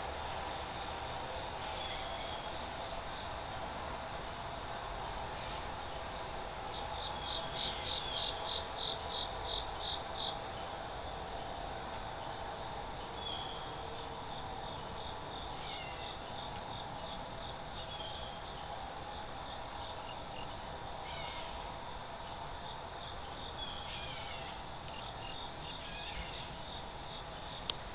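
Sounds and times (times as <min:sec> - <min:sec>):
faint steady hum: 0:00.0 - 0:27.9
insects chirping: 0:00.0 - 0:27.9.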